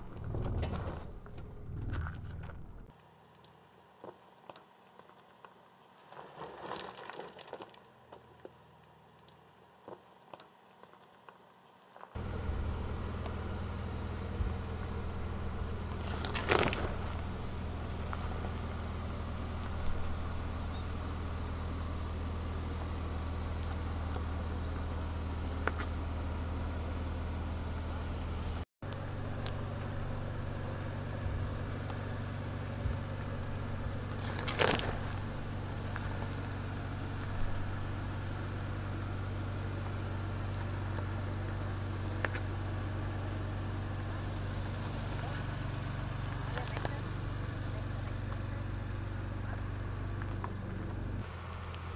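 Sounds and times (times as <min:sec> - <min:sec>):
engine running at low revs: 0:00.0 - 0:02.9, 0:12.2 - 0:51.9
stones crunching under tyres: 0:00.0 - 0:03.0, 0:04.0 - 0:08.6, 0:11.8 - 0:26.4, 0:28.8 - 0:51.9.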